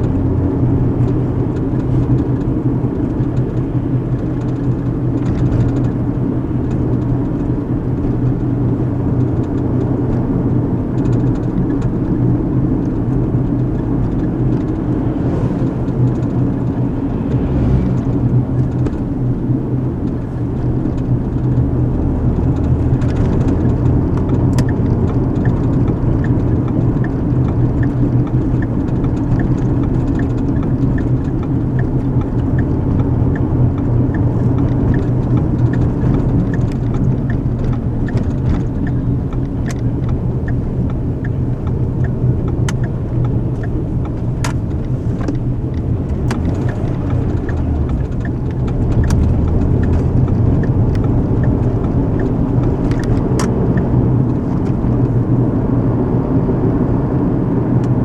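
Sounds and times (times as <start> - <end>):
car cabin rumble: 0.0 - 58.0
turn signal ticking: 0.0 - 58.0.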